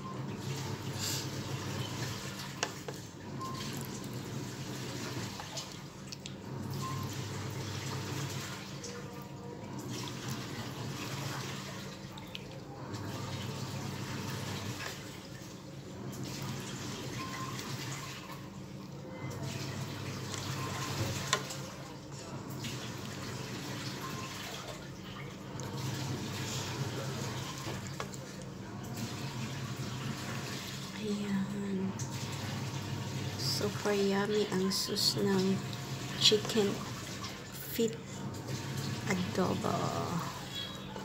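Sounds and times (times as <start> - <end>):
sauce bubbling and sizzling: 0.3 - 31.0, 32.0 - 41.0.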